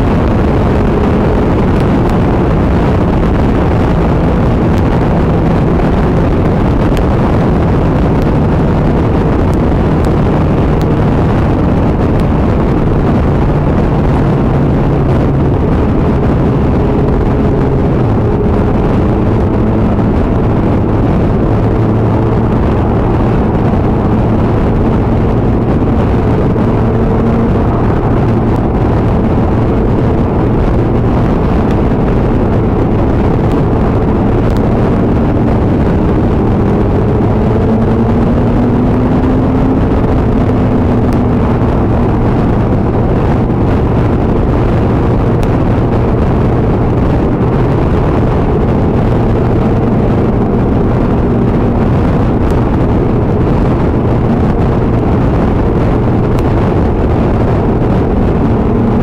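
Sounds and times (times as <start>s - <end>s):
motorcycle engine hum: 0.0s - 59.0s
wind and road rush: 0.0s - 59.0s.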